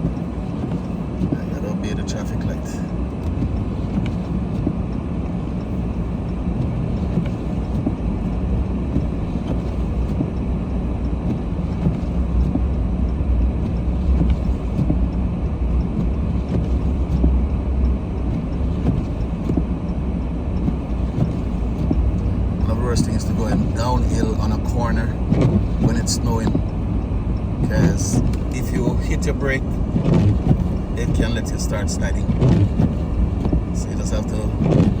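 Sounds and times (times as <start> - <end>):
tyres on snowy road: 0.0 - 35.0
vehicle engine rumble: 0.0 - 35.0.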